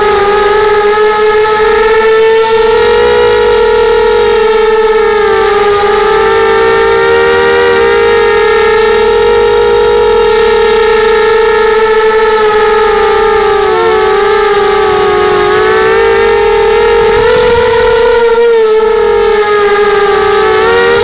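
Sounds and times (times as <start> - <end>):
quadcopter propellers whining: 0.0 - 21.0.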